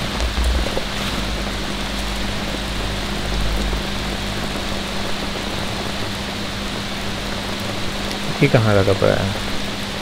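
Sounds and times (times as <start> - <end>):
low steady hum: 0.0 - 8.3
steady rain: 0.0 - 10.0.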